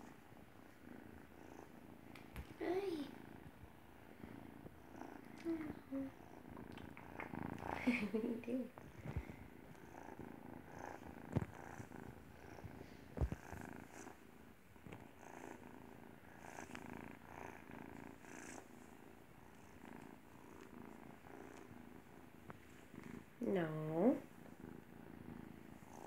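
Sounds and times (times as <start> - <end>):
kitten purring: 0.0 - 26.0.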